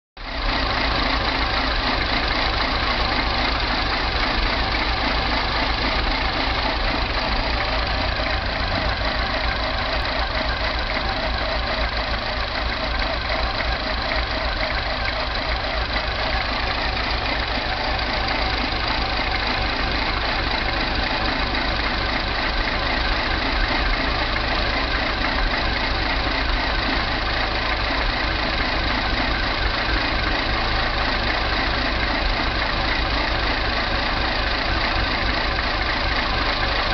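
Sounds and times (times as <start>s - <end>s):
car engine idling roughly: 0.2s - 36.9s.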